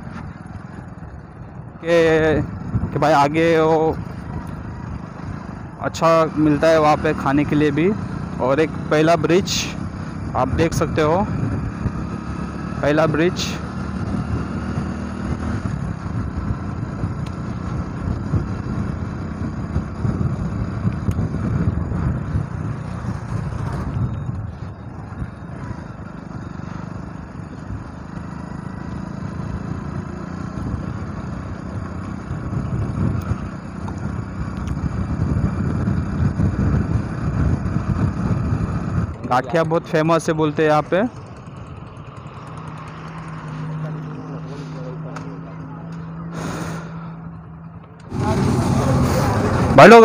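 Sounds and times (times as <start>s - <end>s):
motorcycle engine running: 0.0s - 50.0s
road and wind rumble: 0.0s - 50.0s.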